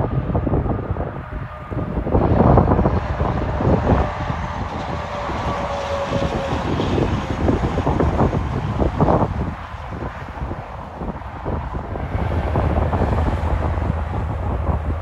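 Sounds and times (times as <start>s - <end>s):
wind buffeting microphone: 0.0s - 15.0s
truck driving past: 0.1s - 15.0s.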